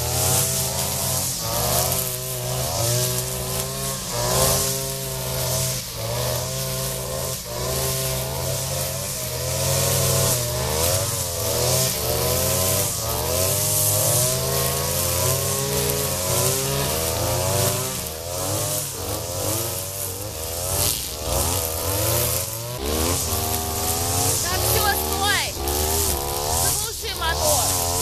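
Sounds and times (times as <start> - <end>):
brush cutter cutting grass: 0.0 - 28.0.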